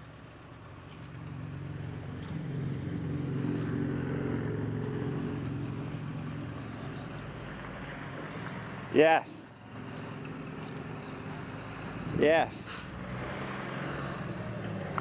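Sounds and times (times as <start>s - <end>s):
vehicle engine passing by: 0.8s - 9.0s, 9.6s - 15.0s.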